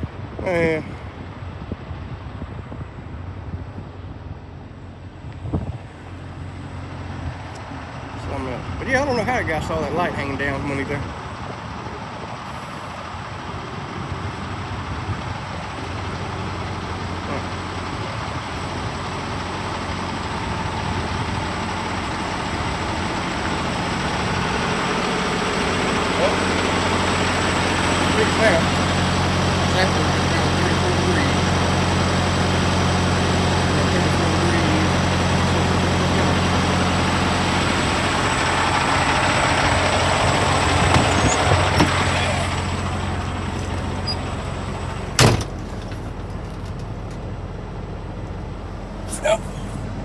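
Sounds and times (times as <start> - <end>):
diesel engine humming: 0.0 - 50.0.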